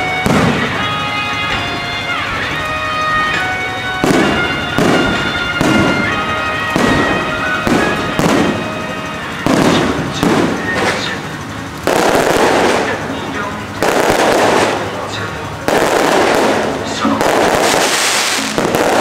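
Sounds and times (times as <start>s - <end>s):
firework shells booming: 0.0s - 19.0s.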